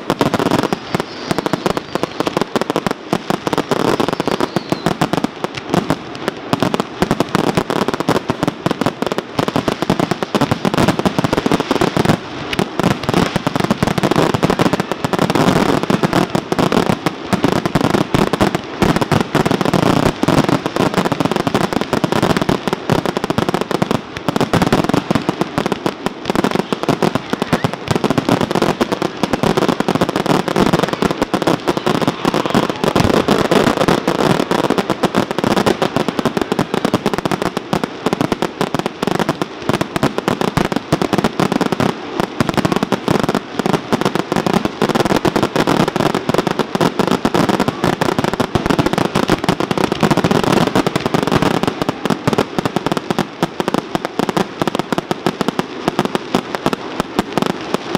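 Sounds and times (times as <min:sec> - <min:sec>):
fireworks bangs: 0:00.0 - 0:57.9.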